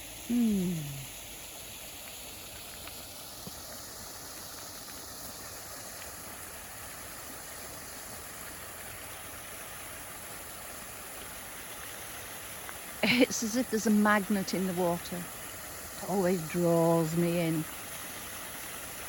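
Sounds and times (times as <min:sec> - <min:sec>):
waterfall pouring and splashing: 0:00.0 - 0:19.0.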